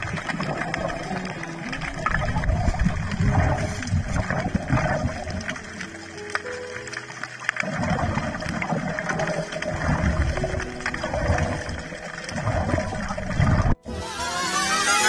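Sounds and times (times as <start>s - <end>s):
small underwater clicks: 0.0s - 13.8s
underwater bubbling of exhaled breath: 0.0s - 13.8s.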